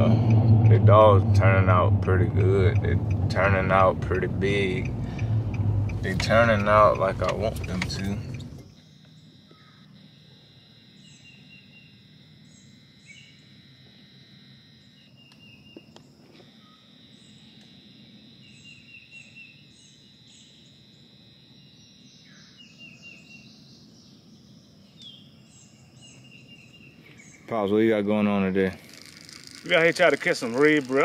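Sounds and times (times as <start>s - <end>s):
birds chirping: 0.0s - 10.0s, 10.9s - 13.6s, 14.7s - 31.0s
high insect buzz: 4.4s - 31.0s.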